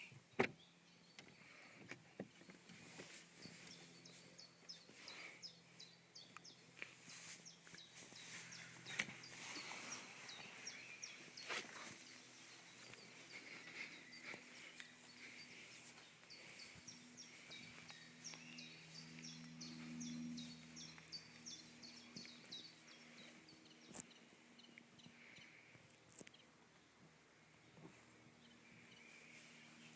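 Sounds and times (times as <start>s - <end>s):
outdoor background noise: 0.0s - 29.9s
small birds chirping: 0.0s - 29.9s.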